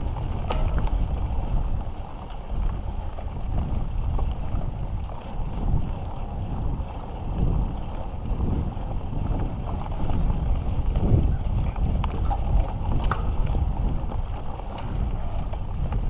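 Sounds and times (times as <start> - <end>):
bike rumbling and rattling: 0.0 - 16.0
wind buffeting microphone: 0.0 - 16.0.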